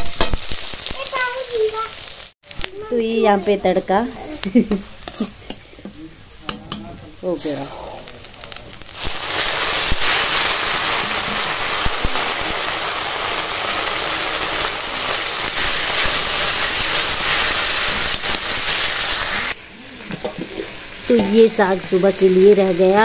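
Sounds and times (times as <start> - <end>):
frying in hot oil sizzling: 0.0 - 23.0.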